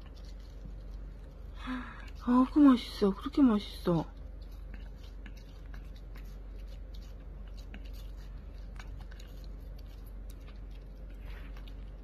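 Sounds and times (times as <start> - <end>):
puppy nibbling wet mouth clicks: 0.0 - 2.2, 4.1 - 12.0.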